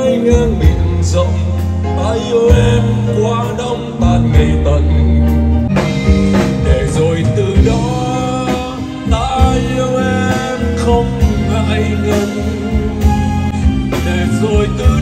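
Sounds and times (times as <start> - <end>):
live band playing: 0.0 - 15.0
man singing into a microphone: 0.0 - 15.0
steady bass notes: 0.0 - 15.0.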